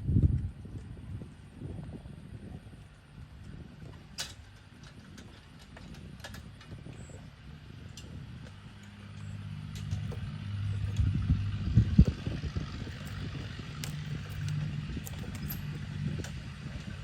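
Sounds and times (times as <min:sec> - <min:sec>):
low background rumble: 0:00.0 - 0:17.0
low motor hum: 0:00.0 - 0:17.0.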